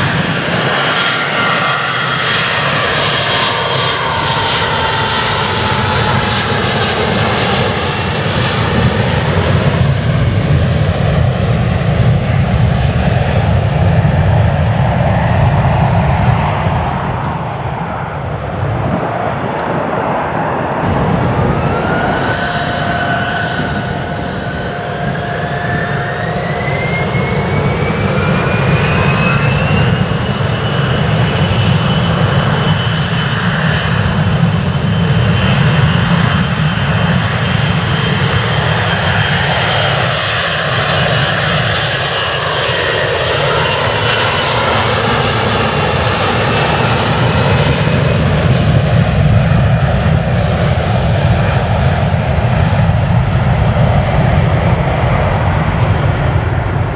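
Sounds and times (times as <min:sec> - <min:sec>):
jet engine whine: 0:00.0 - 0:56.9
jet engines rumbling: 0:00.0 - 0:56.9.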